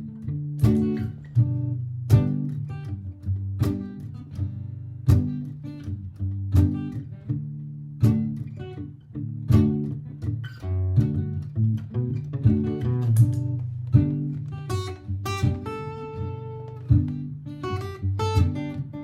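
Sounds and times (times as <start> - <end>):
acoustic guitar strummed chords: 0.0 - 19.0
picked guitar single notes: 0.0 - 19.0.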